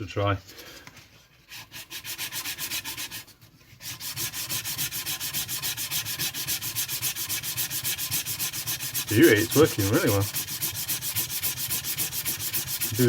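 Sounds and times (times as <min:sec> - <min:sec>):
hand sanding wood: 0:01.4 - 0:13.0.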